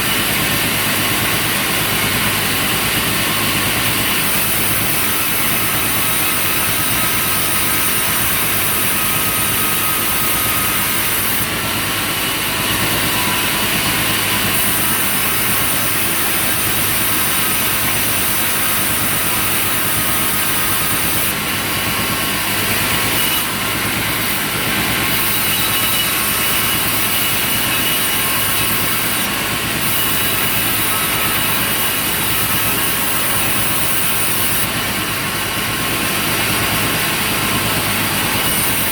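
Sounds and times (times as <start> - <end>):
sawmill machine drone: 0.0 - 38.9.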